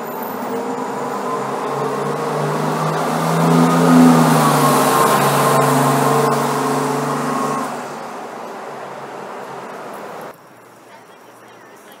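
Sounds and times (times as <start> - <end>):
bus diesel engine accelerating: 0.0 - 10.3.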